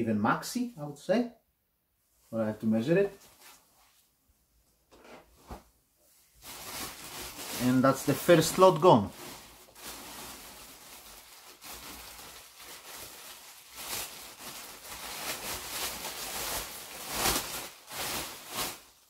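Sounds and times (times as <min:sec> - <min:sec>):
rustling of clothes and packaging: 0:02.0 - 0:04.2, 0:04.8 - 0:19.0.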